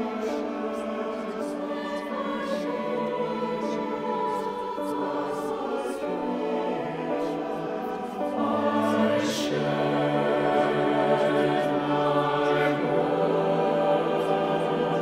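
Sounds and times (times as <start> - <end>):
mixed choir singing chords: 0.0 - 15.0.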